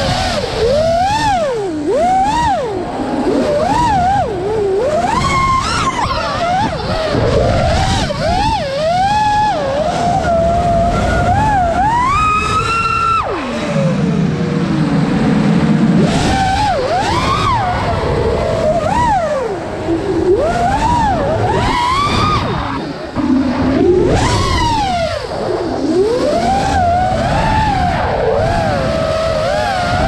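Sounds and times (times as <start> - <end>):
quadcopter propellers whining: 0.0 - 30.0.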